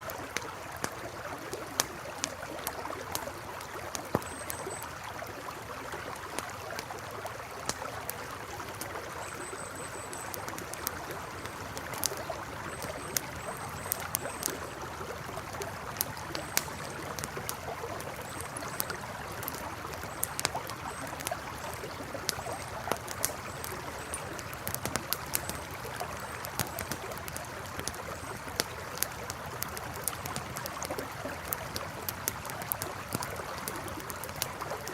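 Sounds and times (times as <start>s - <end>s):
campfire crackling and popping: 0.0s - 34.9s
river flowing: 0.0s - 34.9s.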